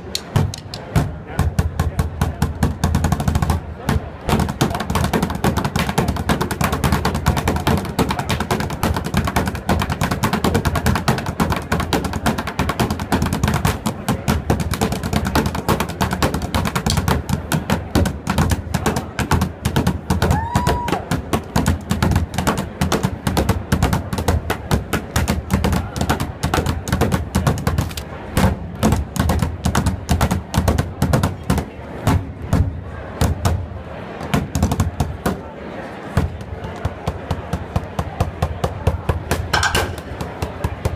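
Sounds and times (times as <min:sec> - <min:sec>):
drumsticks beating plastic barrel: 0:00.0 - 0:33.6, 0:36.2 - 0:40.9.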